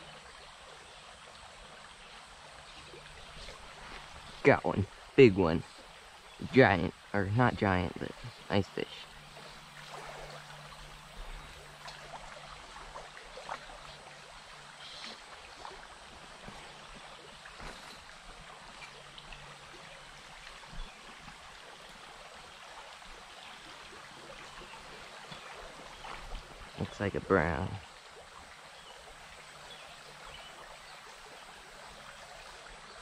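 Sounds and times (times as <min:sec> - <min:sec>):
creek babbling over rocks: 0:00.0 - 0:33.0.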